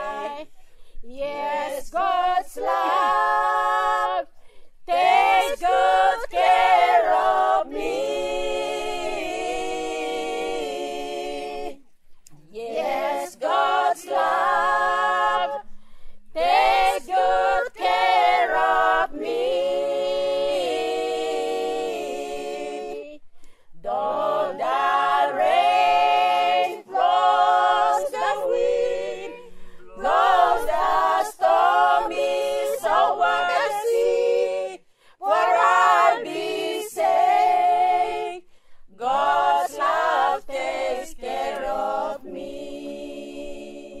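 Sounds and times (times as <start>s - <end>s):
choir singing unaccompanied: 0.0s - 15.7s, 16.3s - 44.0s.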